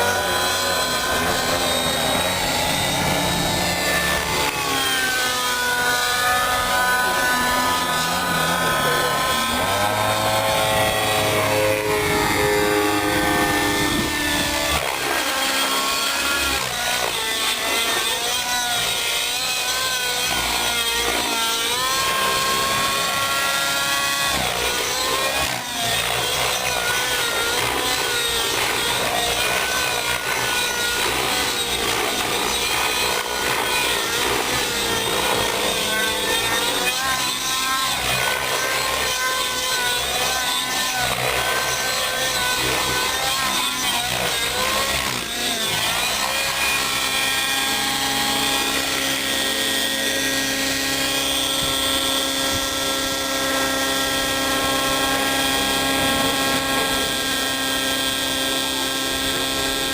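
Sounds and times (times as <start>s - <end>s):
model helicopter engine whine: 0.0s - 59.9s.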